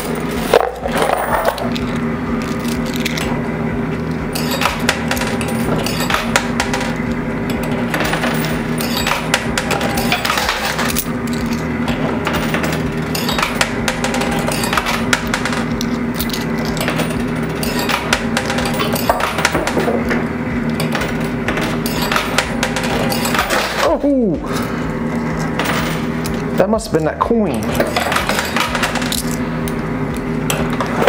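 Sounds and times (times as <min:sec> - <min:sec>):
coins clinking and dropping: 0:00.0 - 0:03.4, 0:04.3 - 0:20.1, 0:20.7 - 0:24.7, 0:25.4 - 0:26.2, 0:27.6 - 0:29.8
arcade machine hum: 0:00.0 - 0:31.0.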